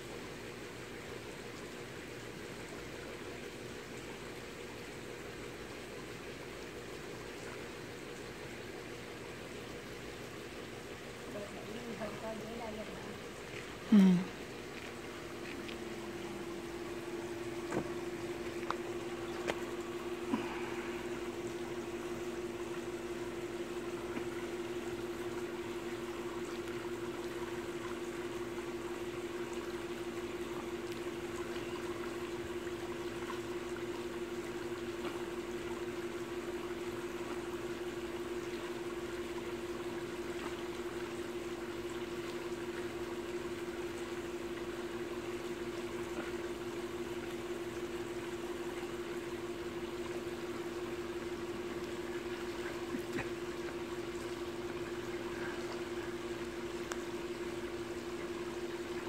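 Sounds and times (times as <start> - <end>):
constant low hum: 0.0 - 59.0
pool water splashing: 0.0 - 59.0.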